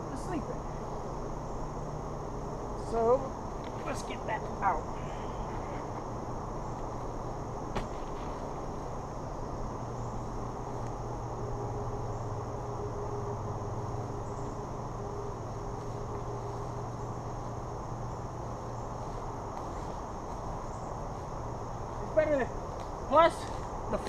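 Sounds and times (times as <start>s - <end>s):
insect chorus drone: 0.0s - 24.0s
low steady hum: 0.0s - 24.0s.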